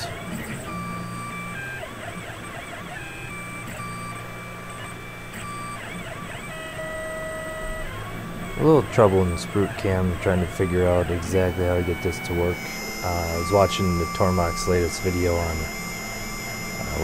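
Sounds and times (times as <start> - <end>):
milling machine axes whining: 0.0 - 17.0.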